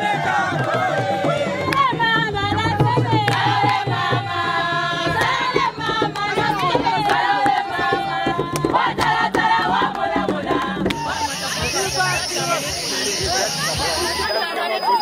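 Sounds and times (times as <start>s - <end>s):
voices singing together: 0.0s - 15.0s.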